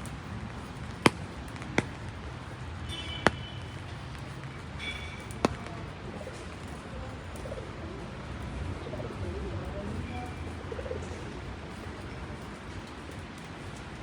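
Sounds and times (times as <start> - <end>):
steady rain: 0.0 - 14.0
street noise: 0.0 - 14.0.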